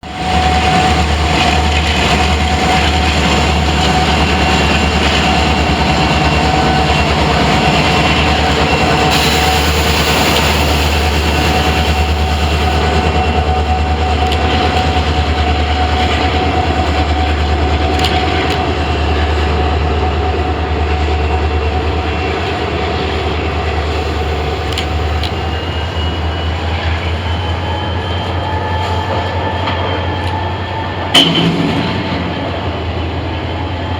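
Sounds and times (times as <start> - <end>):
locomotive engine drone: 0.0 - 33.9
constant whine: 0.1 - 33.9.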